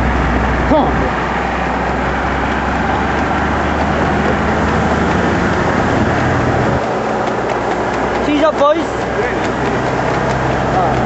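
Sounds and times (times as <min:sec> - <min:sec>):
car engine hum: 0:00.0 - 0:11.0
tyre and wind noise: 0:00.0 - 0:11.0.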